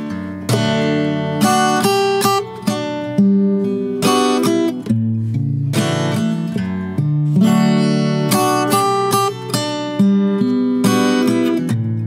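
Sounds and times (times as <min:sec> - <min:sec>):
acoustic guitar fingerstyle: 0:00.0 - 0:12.0.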